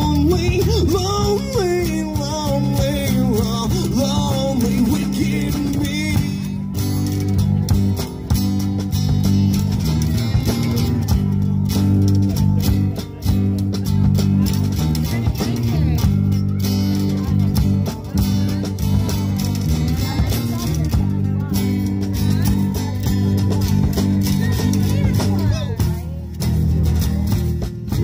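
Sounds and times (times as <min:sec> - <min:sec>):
bass guitar line: 0:00.0 - 0:28.0
electric guitar: 0:00.0 - 0:28.0.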